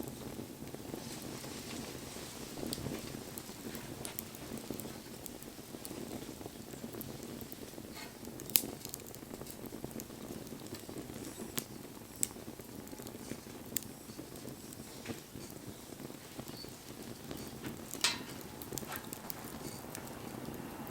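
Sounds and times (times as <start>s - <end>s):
burning wood pops and crackles: 0.0s - 20.9s
low rush of flames: 0.0s - 20.9s.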